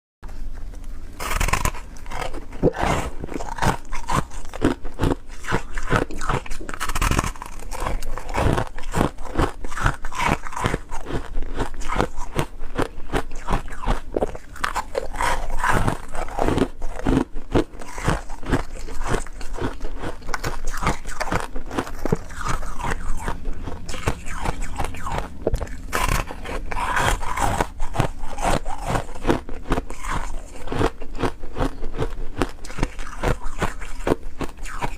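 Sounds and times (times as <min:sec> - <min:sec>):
person chewing ice: 0:00.3 - 0:34.9.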